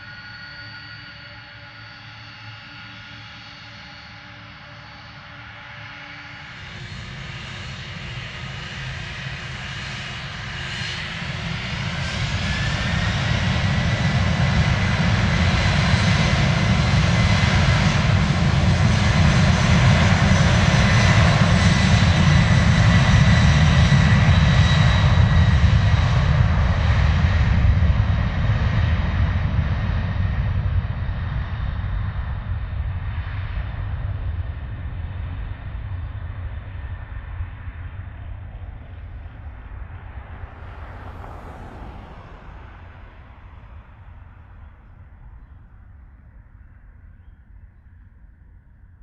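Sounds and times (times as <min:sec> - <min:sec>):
jet engine fan whine: 0:00.0 - 0:48.8
jet engine deep rumble: 0:00.0 - 0:49.0.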